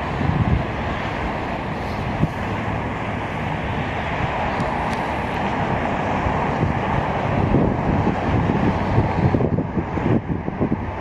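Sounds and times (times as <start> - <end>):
locomotive rumbling: 0.0 - 11.0
wind buffeting microphone: 0.0 - 11.0.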